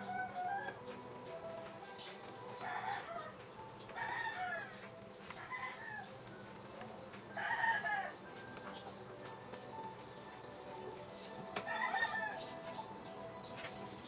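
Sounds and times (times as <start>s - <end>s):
chickens calling: 0.0s - 14.0s.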